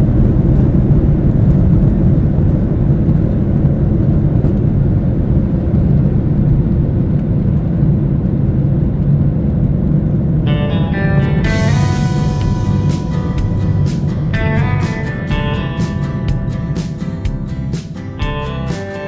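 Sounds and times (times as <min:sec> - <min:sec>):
airplane cabin engine noise: 0:00.0 - 0:19.0.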